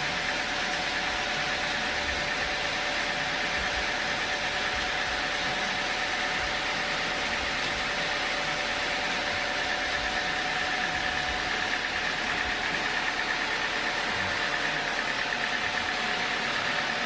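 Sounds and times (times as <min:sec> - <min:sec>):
constant machine whine: 0:00.0 - 0:17.0
sawmill machinery running: 0:00.0 - 0:17.0.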